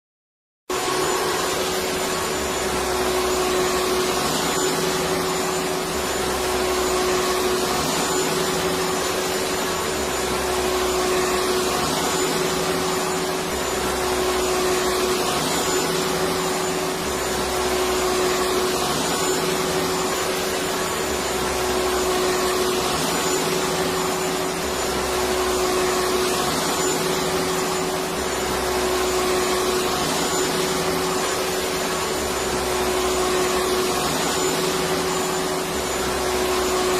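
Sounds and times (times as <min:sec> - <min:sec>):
vacuum cleaner running: 0:00.7 - 0:36.9.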